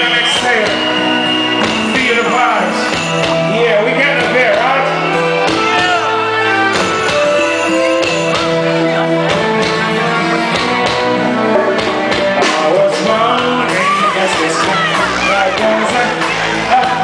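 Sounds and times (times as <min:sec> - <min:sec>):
live reggae band playing: 0:00.0 - 0:17.0.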